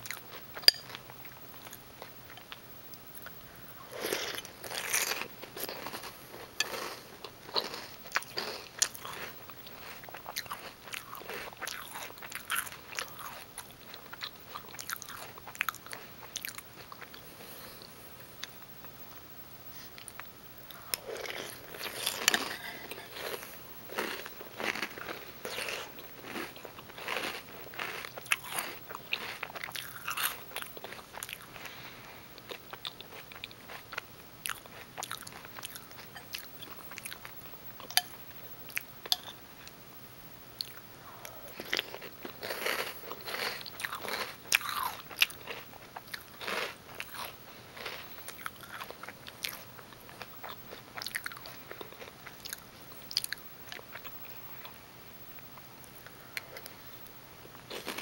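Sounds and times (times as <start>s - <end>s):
person chewing crunchy cereal: 3.2s - 18.6s, 20.0s - 39.7s, 40.6s - 54.8s, 57.5s - 58.0s.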